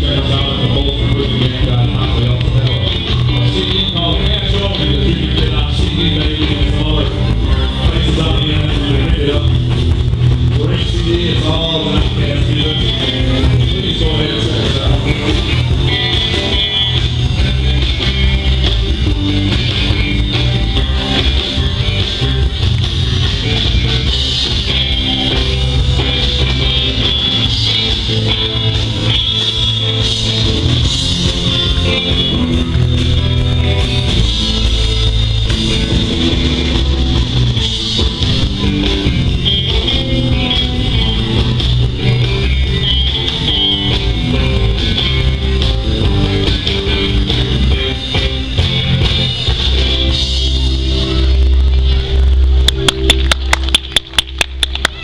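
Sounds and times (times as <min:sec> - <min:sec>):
live rock band playing: 0:00.0 - 0:55.0
steady bass: 0:00.0 - 0:55.0.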